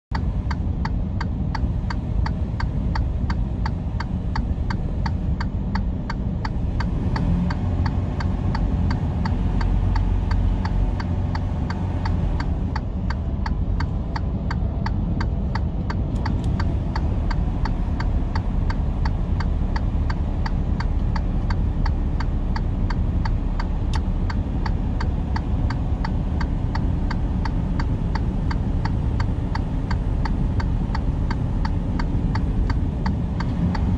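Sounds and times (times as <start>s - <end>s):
fast even ticking: 0.1s - 33.9s
road noise: 0.1s - 33.9s
truck engine drone: 0.1s - 33.9s.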